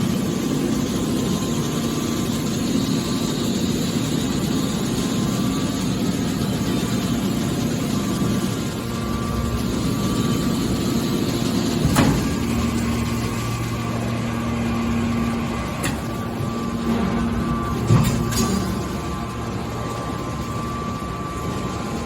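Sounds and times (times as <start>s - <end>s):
hydraulic baler humming: 0.0s - 22.0s.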